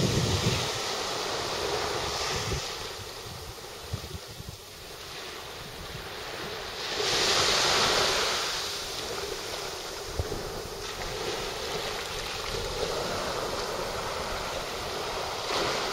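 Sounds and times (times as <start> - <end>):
waves washing onto sandy beach: 0.0 - 15.9.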